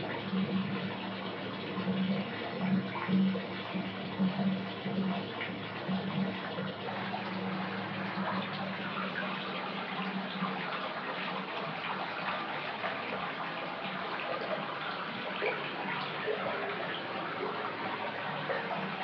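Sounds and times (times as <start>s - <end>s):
tap water filling bathtub: 0.0s - 19.0s.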